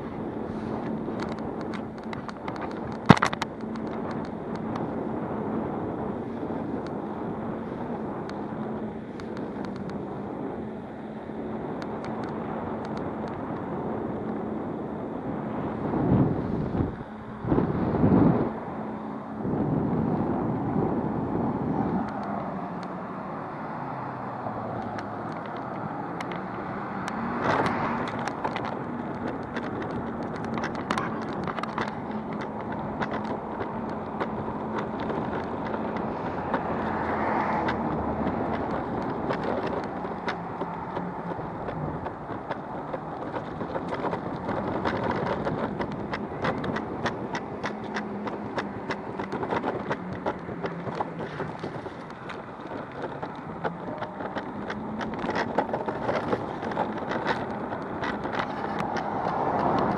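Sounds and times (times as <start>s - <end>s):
skateboard wheels rumbling on road: 0.0s - 59.9s
scattered ticks: 0.4s - 14.5s, 22.0s - 59.9s.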